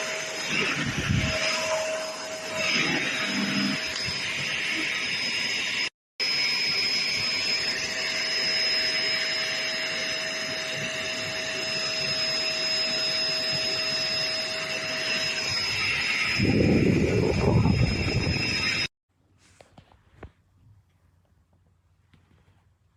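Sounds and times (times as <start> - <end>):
vacuum cleaner running: 0.0 - 18.9.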